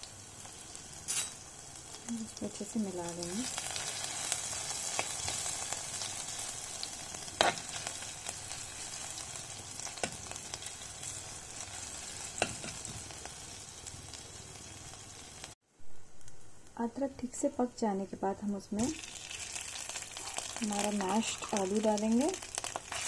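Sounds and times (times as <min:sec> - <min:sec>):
spices sizzling in hot oil: 0:00.0 - 0:15.6, 0:16.2 - 0:23.0.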